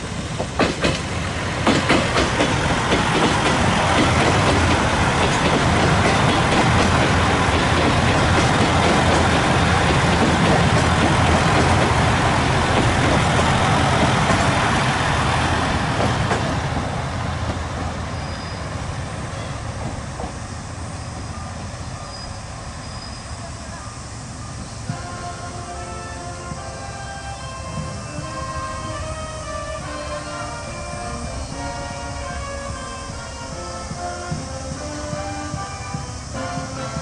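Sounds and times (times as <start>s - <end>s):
diesel train passing: 0.0s - 37.0s.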